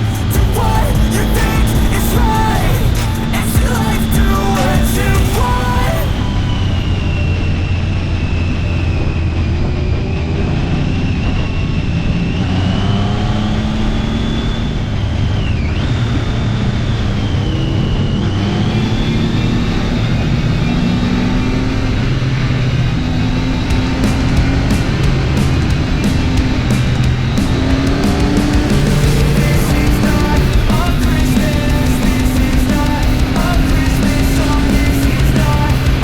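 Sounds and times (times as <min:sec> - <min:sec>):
motorcycle engine on the move: 0:00.0 - 0:36.0
steady high whine: 0:00.0 - 0:36.0.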